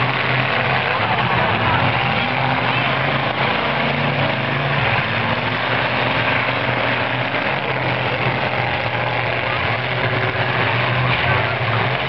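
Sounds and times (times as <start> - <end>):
car engines racing: 0.0 - 12.0.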